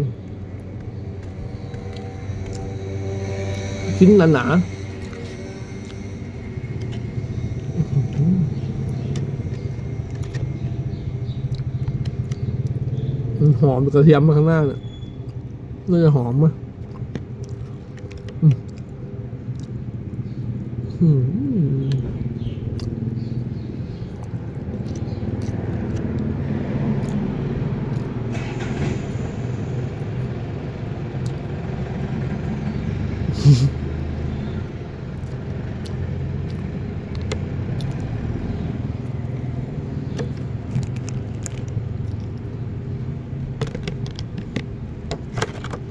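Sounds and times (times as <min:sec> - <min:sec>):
vehicle engine rumbling: 0:00.0 - 0:45.9.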